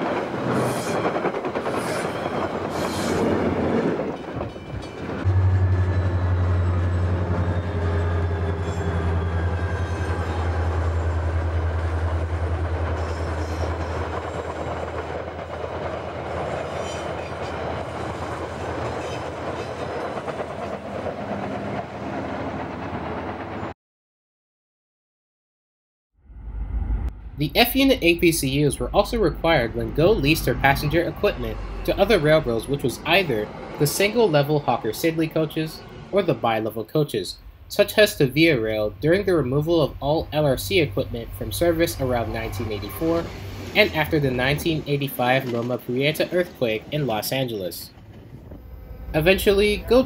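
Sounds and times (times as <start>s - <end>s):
train engine low hum: 0.0s - 23.7s, 26.4s - 50.0s.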